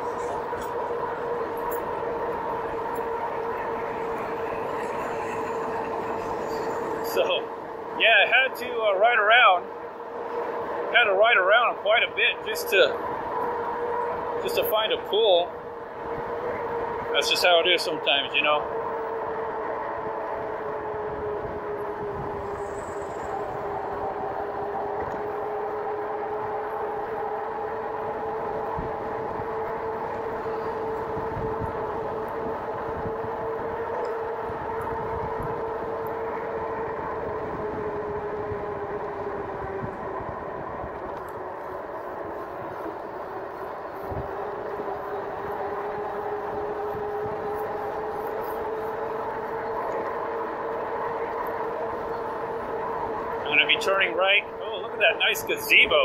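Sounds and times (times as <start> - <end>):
rushing ride noise: 0.0 - 56.0.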